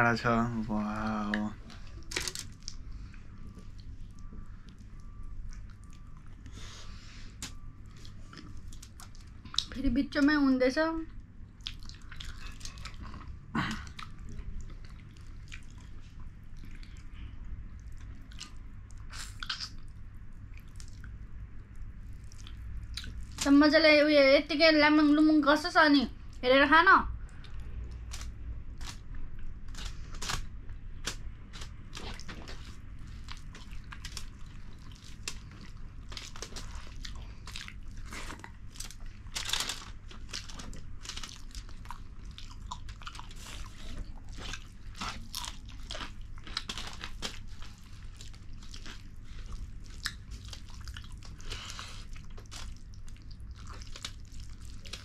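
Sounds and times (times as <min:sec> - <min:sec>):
people chewing food: 0:00.0 - 0:10.3, 0:11.0 - 0:23.6, 0:27.1 - 0:55.0
steady low hum: 0:00.0 - 0:55.0.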